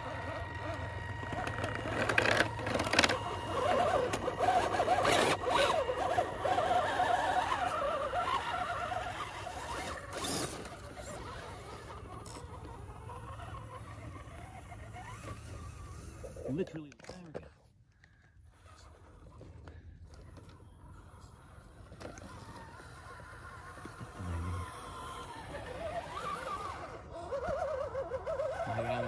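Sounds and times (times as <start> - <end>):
electric motor and gears whining: 0.0 - 17.4, 18.3 - 29.0.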